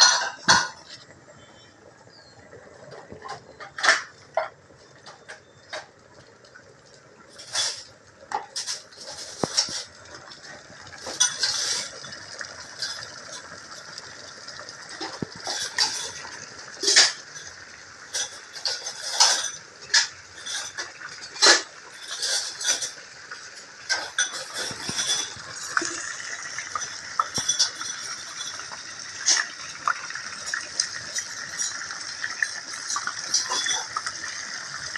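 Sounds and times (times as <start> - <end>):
fish frying in oil: 0.0 - 34.9.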